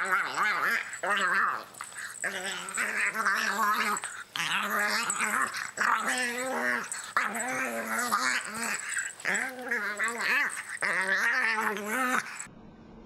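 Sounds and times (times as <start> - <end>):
dog growling and moaning: 0.0 - 12.5.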